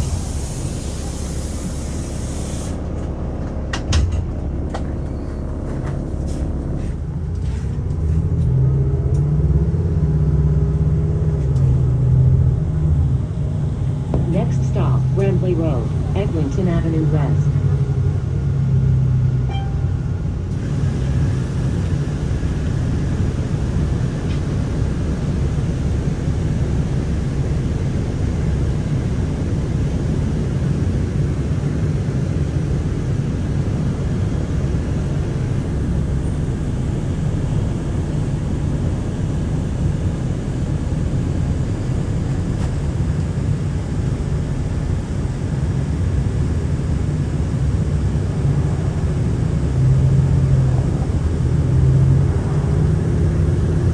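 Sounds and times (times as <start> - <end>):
bus engine and road rumble: 0.0 - 53.9.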